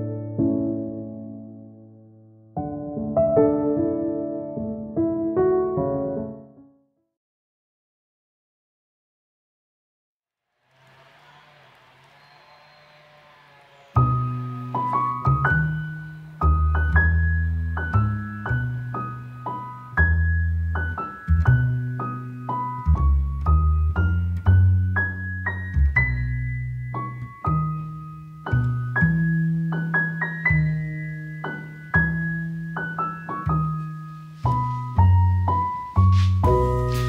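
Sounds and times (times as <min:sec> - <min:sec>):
gentle piano melody: 0:00.0 - 0:06.8, 0:14.0 - 0:37.0.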